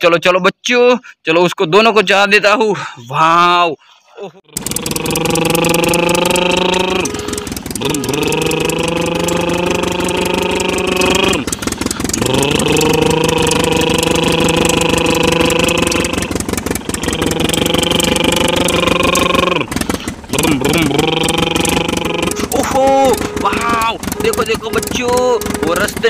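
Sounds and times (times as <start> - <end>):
engine buzzing rattle: 4.5 - 26.0.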